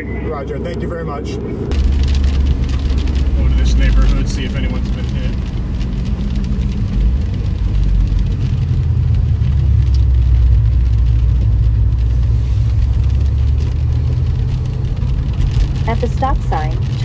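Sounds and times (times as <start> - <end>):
car interior engine rumble: 0.0 - 17.0.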